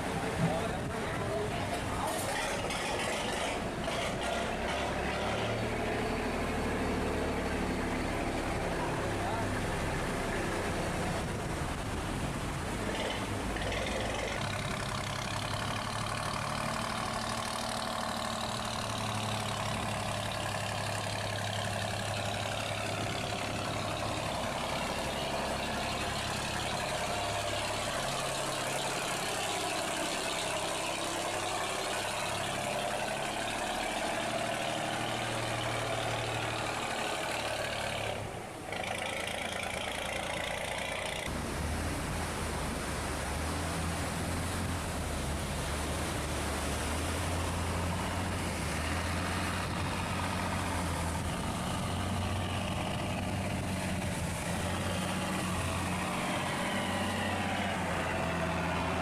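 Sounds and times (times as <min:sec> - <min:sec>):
boat engine running: 0:00.0 - 0:59.0
fast-flowing water rushing: 0:08.8 - 0:59.0.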